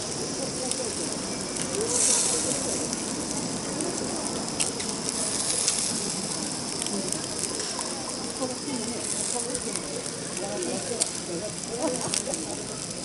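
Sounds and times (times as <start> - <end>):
fire crackling and hissing: 0.0 - 13.0
fire popping: 0.0 - 13.0.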